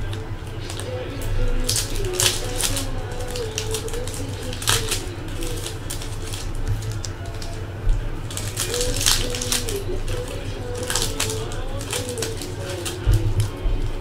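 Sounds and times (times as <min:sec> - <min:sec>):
card pack wrappers crinkling and tearing: 0:00.0 - 0:14.0
cards being handled: 0:00.0 - 0:14.0.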